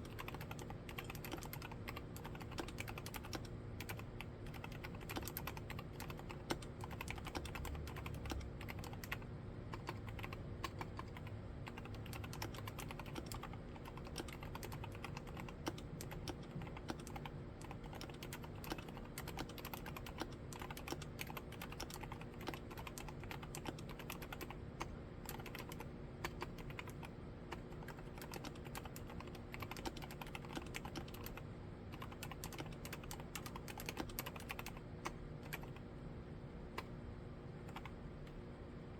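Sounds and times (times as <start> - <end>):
rapid typing on mechanical keyboard: 0.0 - 35.8, 37.6 - 38.0.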